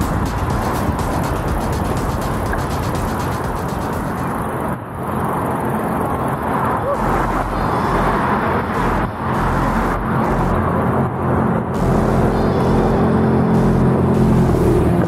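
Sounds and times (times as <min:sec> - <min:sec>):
motor traffic: 0:00.0 - 0:15.0
road noise: 0:00.0 - 0:15.0.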